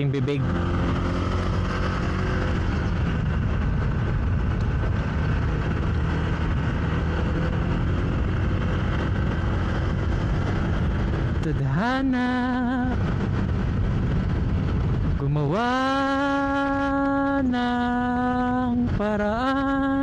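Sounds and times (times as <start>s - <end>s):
faint engine hum: 0.0s - 20.0s
motorcycle engine wind and road rumble: 0.0s - 20.0s.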